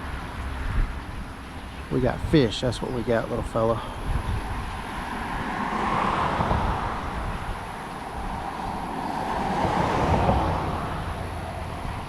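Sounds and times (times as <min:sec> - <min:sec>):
highway vehicles passing: 0:00.0 - 0:12.0.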